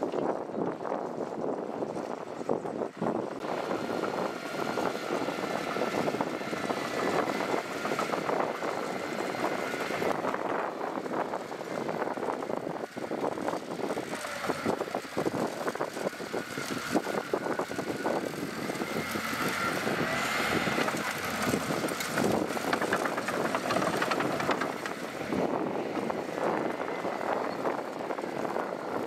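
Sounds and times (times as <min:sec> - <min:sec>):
diesel engine clattering: 0:03.4 - 0:29.0.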